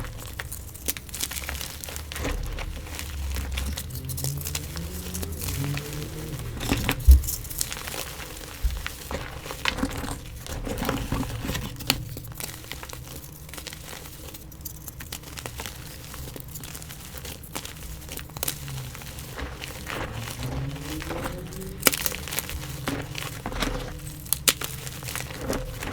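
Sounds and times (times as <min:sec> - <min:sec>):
chalk crunching by hand: 0:00.0 - 0:25.9.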